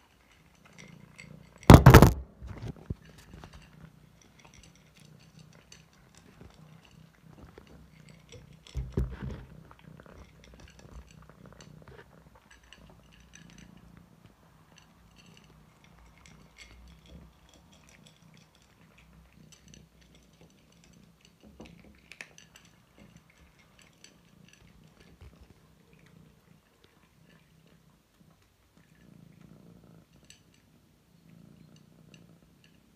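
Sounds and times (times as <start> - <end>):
cat purring: 2.4 - 32.9
cat crunching kibble: 2.6 - 30.8.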